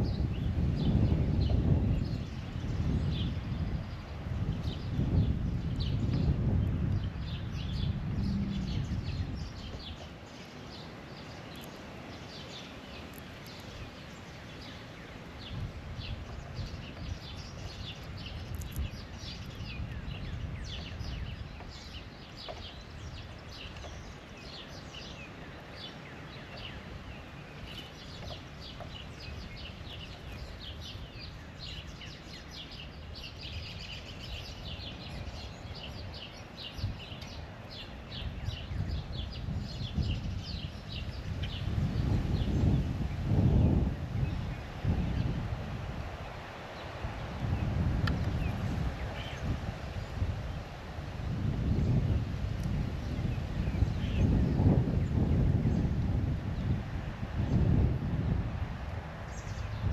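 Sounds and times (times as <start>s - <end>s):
birds chirping: 0.0s - 50.7s, 51.4s - 56.8s, 59.2s - 59.9s.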